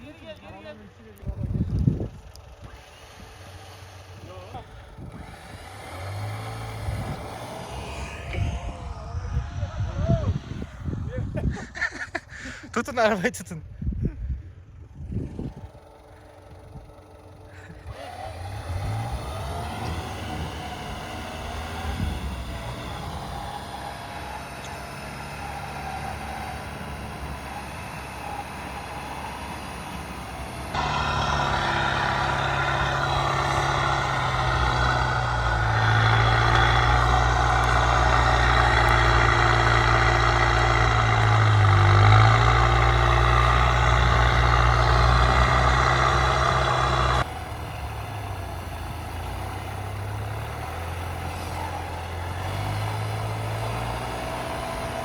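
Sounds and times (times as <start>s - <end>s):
pickup engine running: 0.0s - 13.3s, 14.5s - 55.0s.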